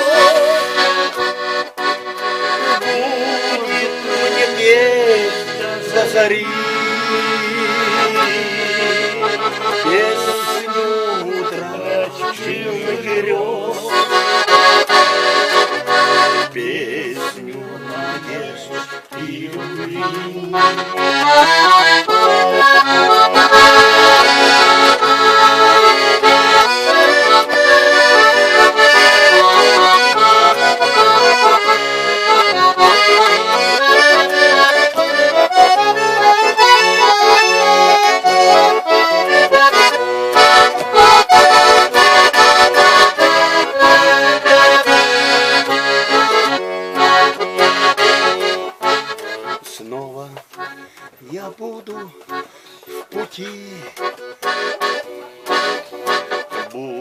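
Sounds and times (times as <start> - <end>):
accordion playing: 0.0 - 57.0.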